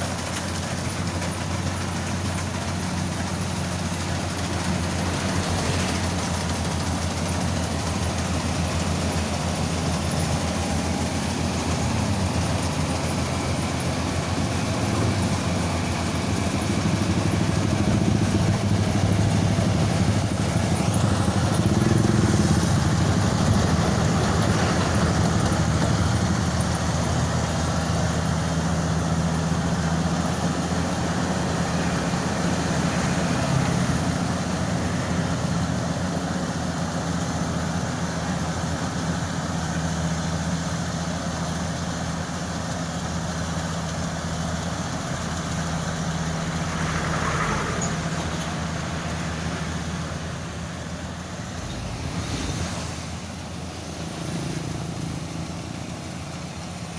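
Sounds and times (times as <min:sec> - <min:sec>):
rice thresher engine running: 0:00.0 - 0:56.9.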